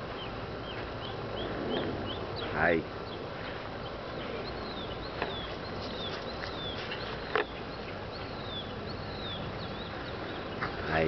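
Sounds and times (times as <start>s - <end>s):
low outdoor background: 0.0s - 11.0s
small birds chirping: 0.0s - 11.0s.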